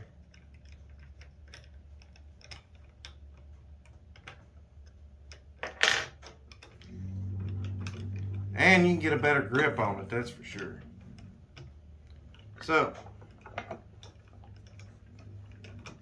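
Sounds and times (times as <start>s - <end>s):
metal clicks and ticks: 0.0s - 5.6s, 6.2s - 16.0s
low steady hum: 0.0s - 16.0s.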